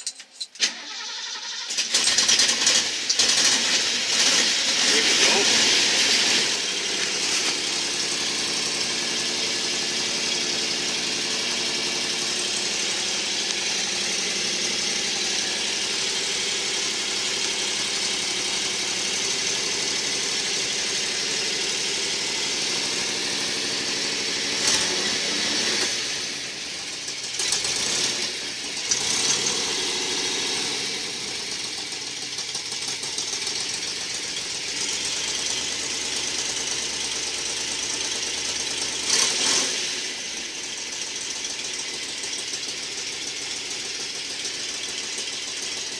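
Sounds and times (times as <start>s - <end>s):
engine idling: 0.0s - 45.9s
engine knock: 1.8s - 45.9s.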